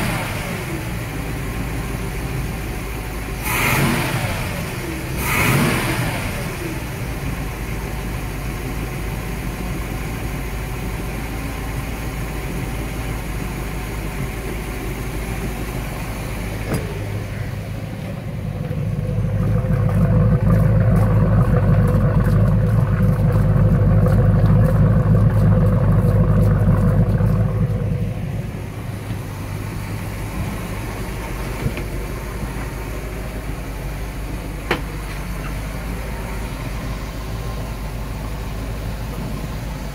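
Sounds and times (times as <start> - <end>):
boat engine idling: 0.0 - 5.3, 6.2 - 39.9.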